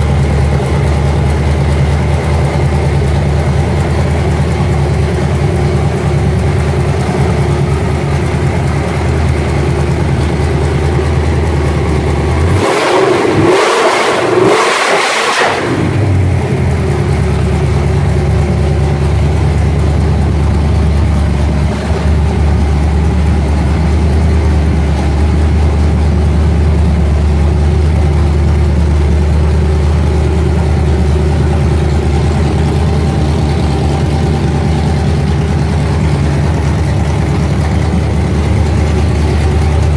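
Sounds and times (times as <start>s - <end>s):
car engine idling: 0.0s - 39.9s
engine throttle blips: 0.0s - 39.9s.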